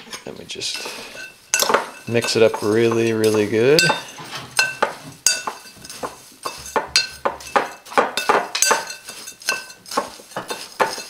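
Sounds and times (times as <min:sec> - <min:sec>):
spoon scraping glass bowl: 0:00.7 - 0:11.0.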